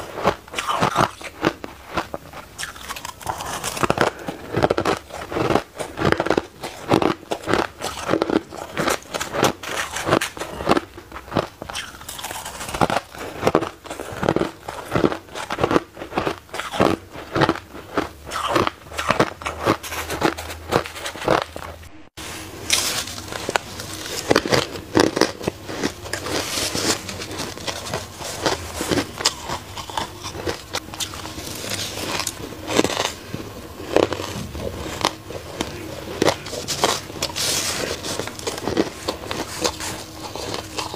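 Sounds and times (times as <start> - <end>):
shaved ice crunching: 0.0 - 21.6, 22.6 - 40.9.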